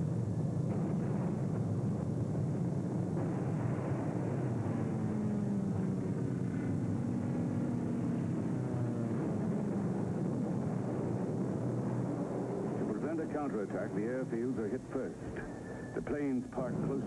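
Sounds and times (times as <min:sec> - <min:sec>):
continuous rumble: 0:00.0 - 0:17.0
propeller aircraft engines droning: 0:00.0 - 0:17.0.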